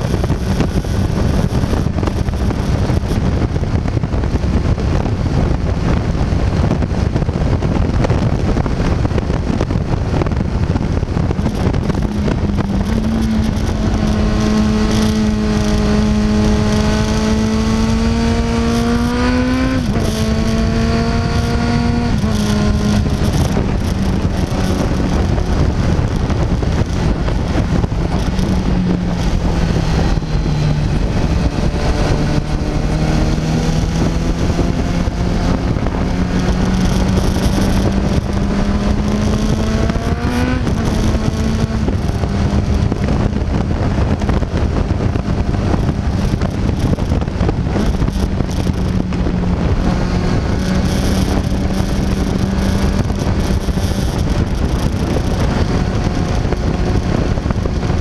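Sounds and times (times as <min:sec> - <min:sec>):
motorcycle engine running: 0:00.0 - 0:58.0
wind rushing on microphone: 0:00.0 - 0:58.0.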